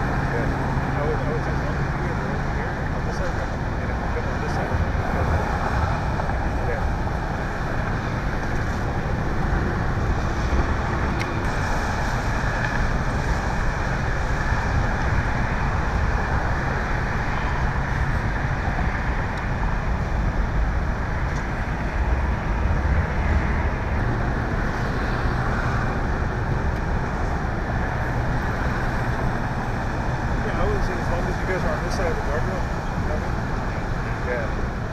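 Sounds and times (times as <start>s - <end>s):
traffic rumble: 0.0s - 34.9s.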